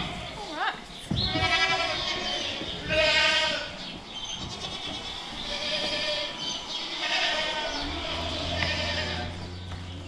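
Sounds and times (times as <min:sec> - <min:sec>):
goats bleating: 0:01.2 - 0:09.6.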